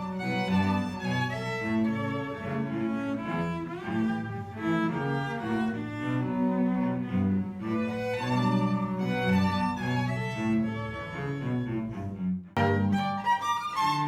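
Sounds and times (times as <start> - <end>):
bowed strings ensemble music: 0.0 - 14.0.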